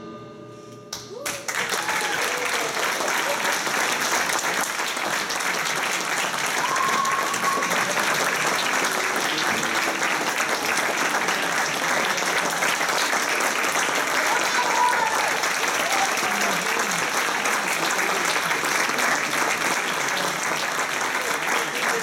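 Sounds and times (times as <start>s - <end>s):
audience applauding: 0.9s - 22.0s.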